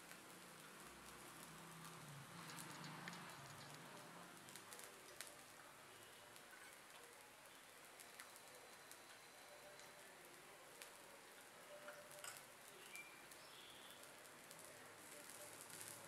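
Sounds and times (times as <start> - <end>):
batter sizzling in oil: 0.0 - 16.0.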